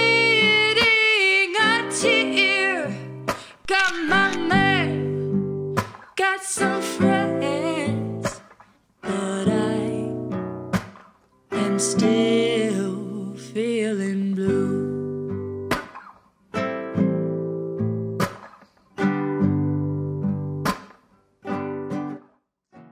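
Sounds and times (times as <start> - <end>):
slow acoustic guitar song: 0.0 - 22.9.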